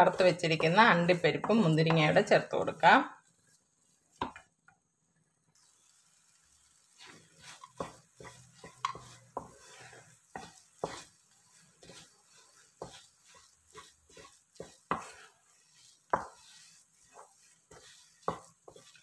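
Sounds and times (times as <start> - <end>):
wooden spatula scraping a pan: 0.0 - 4.6, 5.6 - 19.0.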